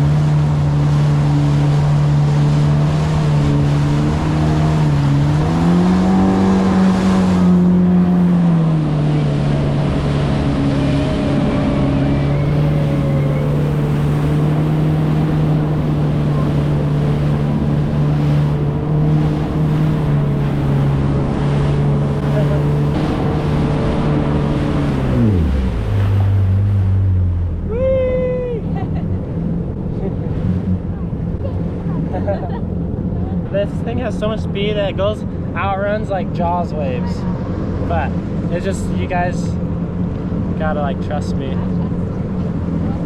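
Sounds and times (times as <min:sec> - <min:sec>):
jet ski engine droning: 0:00.0 - 0:43.0
rushing water: 0:00.0 - 0:43.0.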